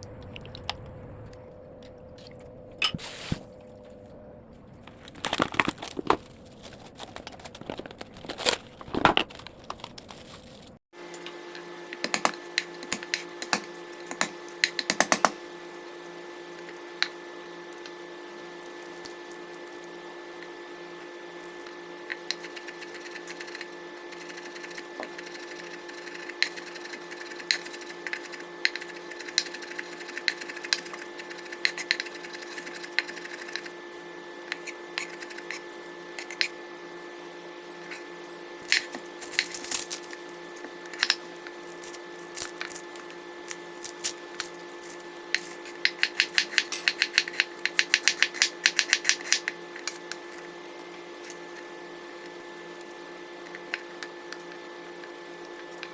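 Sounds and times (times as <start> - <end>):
steady hum: 10.6 - 55.9.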